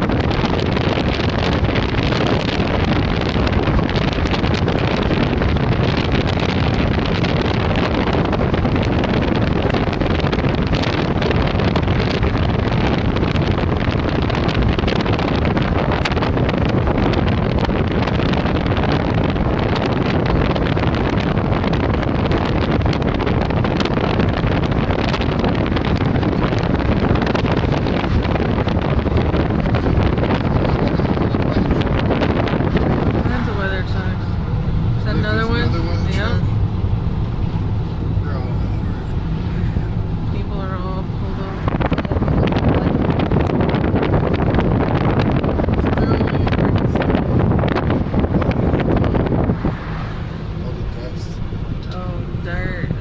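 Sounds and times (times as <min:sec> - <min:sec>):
storm wind on microphone: 0:00.0 - 0:53.0.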